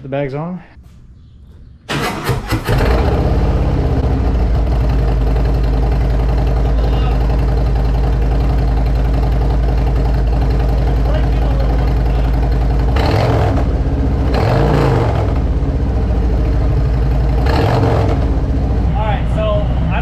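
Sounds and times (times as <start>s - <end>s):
motorcycle engine starting and idling: 0.8s - 20.0s.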